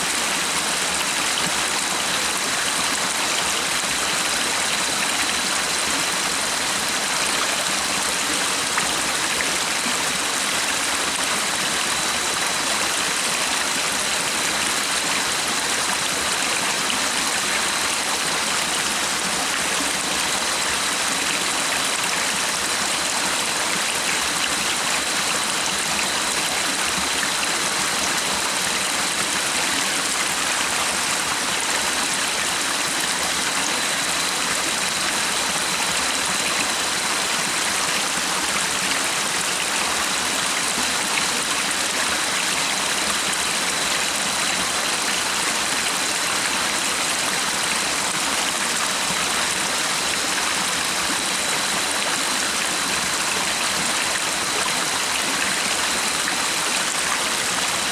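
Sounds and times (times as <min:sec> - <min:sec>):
stream water flowing: 0:00.0 - 0:57.9.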